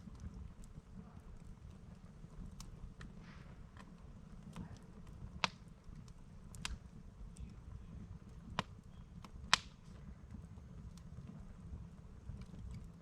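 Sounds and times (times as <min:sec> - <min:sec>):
campfire crackling and popping: 0:00.0 - 0:13.0
low steady rumble: 0:00.0 - 0:13.0.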